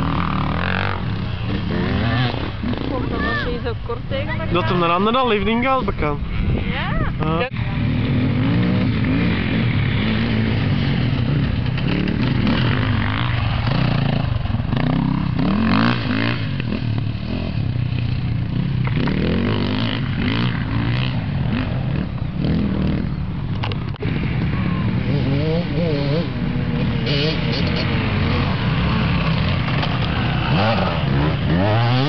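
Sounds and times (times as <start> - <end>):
motorcycle engines revving: 0.0 - 32.0.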